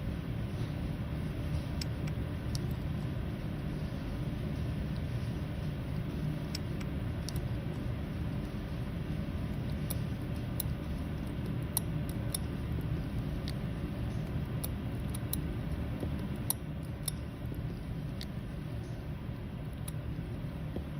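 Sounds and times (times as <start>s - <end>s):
low background hum: 0.0s - 20.9s.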